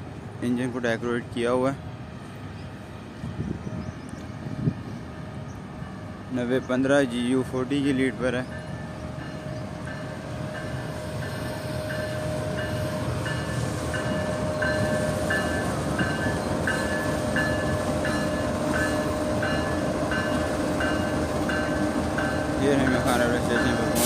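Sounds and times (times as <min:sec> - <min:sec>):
diesel locomotive rumbling: 0:00.0 - 0:24.0.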